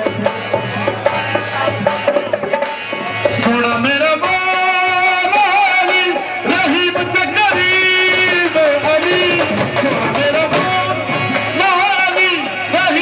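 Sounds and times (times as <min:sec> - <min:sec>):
dhol drums beating: 0:00.0 - 0:13.0
man singing: 0:00.0 - 0:13.0.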